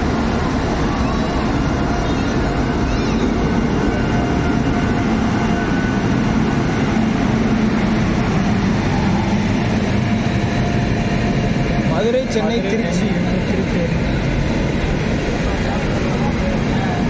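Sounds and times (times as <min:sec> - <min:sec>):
electric locomotive rumbling past: 0:00.0 - 0:17.0.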